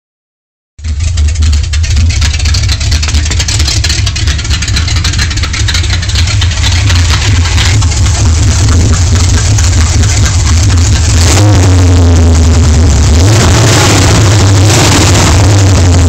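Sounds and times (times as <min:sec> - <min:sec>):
engine idling rumble: 0:00.8 - 0:16.0.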